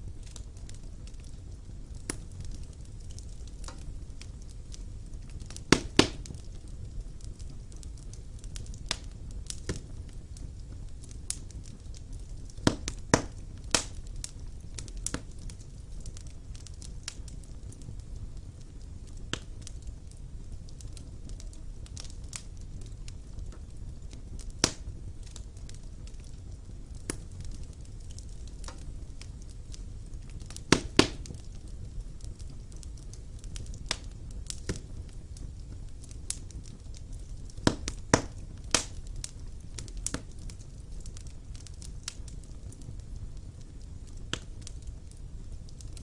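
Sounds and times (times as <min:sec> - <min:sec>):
fire crackles and pops: 0:00.0 - 0:46.0
fire flames rumbling: 0:00.0 - 0:46.0.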